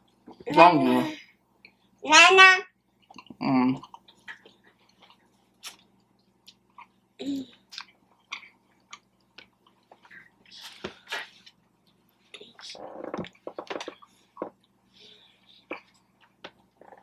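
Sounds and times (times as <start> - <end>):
person chewing food: 2.8 - 17.0.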